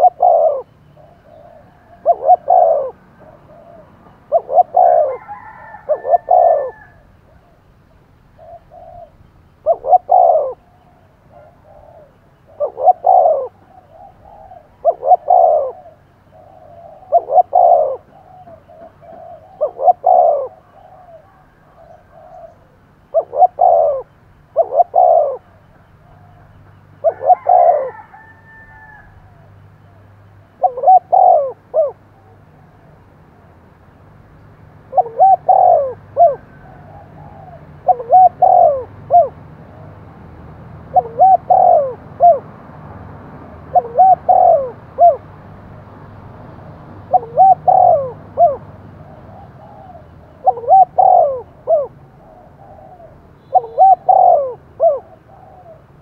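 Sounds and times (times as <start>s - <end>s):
dove cooing: 0.0s - 7.7s, 8.3s - 32.5s, 34.9s - 40.1s, 40.8s - 42.5s, 43.6s - 45.3s, 47.1s - 56.0s.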